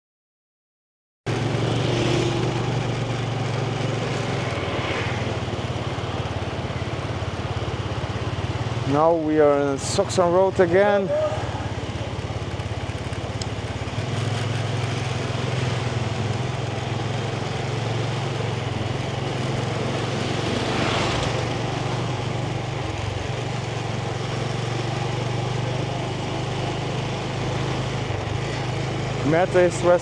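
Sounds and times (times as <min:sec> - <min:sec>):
motorbike engine running: 0:01.3 - 0:30.0.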